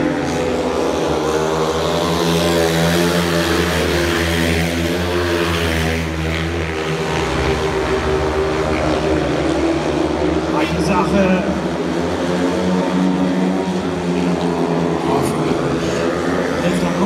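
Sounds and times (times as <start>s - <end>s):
motorcycles racing: 0.0s - 17.0s.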